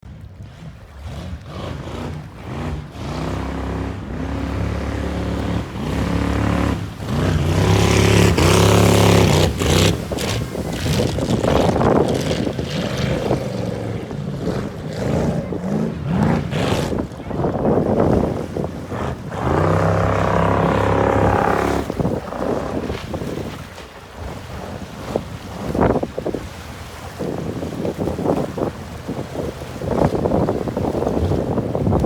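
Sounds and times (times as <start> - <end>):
jet boat engine revving: 0.1 - 32.0.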